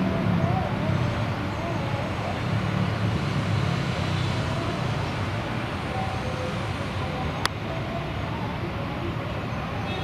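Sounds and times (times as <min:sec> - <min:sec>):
low rumble of distant engines: 0:00.0 - 0:10.0.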